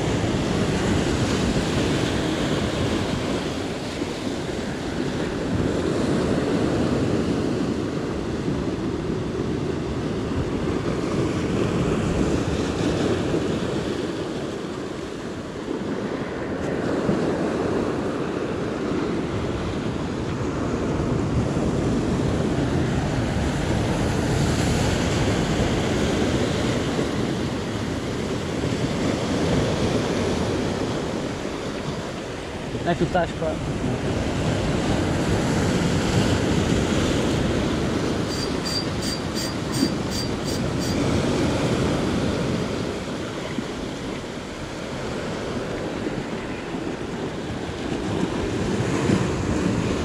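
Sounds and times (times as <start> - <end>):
wind on microphone: 0.0 - 32.9, 33.6 - 50.0
sea surf rushing: 0.0 - 50.0.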